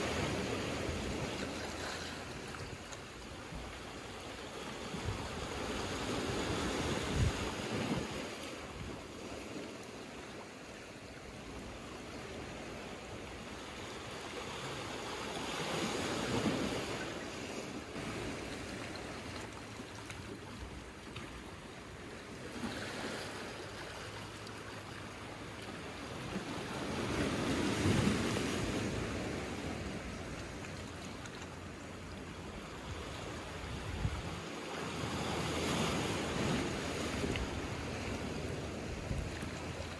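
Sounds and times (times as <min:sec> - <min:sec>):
waves washing over rocks and pebbles: 0:00.0 - 0:39.9.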